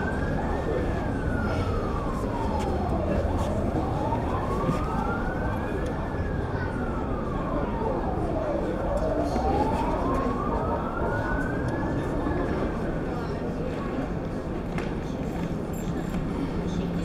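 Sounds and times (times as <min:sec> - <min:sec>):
siren wailing: 0:00.0 - 0:14.4.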